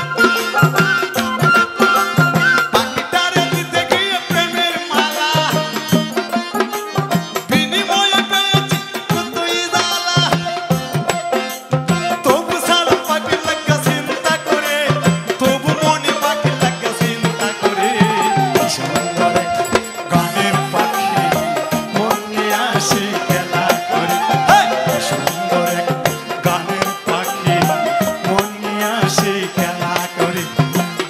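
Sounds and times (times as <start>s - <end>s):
folk ensemble playing: 0.0s - 31.0s
hand drum rhythm: 0.0s - 31.0s
man singing: 2.6s - 6.5s, 7.3s - 31.0s.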